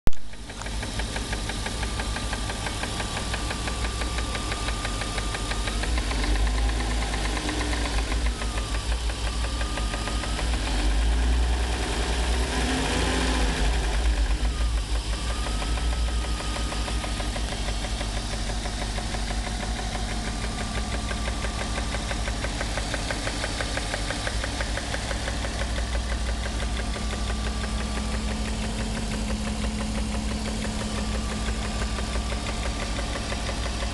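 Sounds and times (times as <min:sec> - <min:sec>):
car engine idling with ticking: 0:00.1 - 0:33.9
engine revving: 0:00.3 - 0:33.9.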